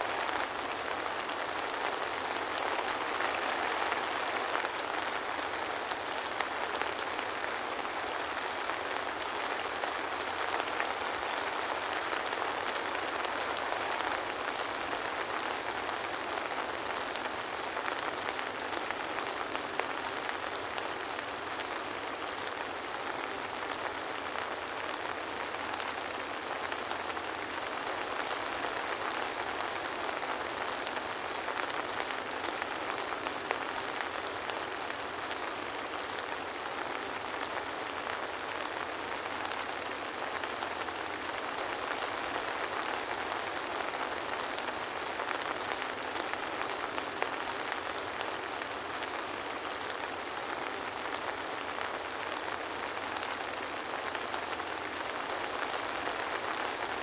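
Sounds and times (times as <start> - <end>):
soft rain pattering: 0.0 - 57.0.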